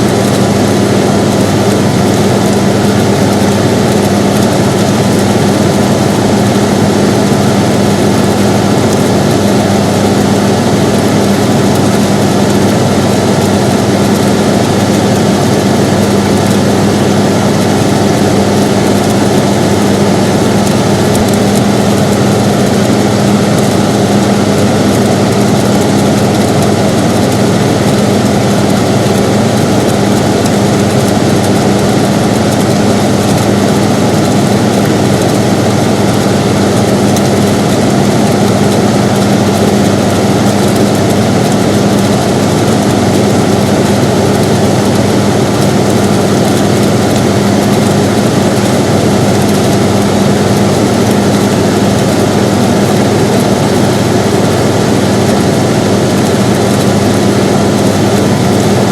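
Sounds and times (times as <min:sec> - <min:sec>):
air conditioner running: 0:00.0 - 0:58.9.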